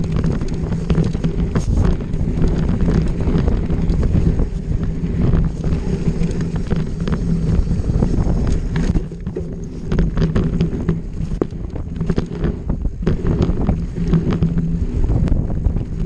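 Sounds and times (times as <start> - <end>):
bike rattling over rough trail: 0.0 - 16.0
wind buffeting microphone: 0.0 - 16.0.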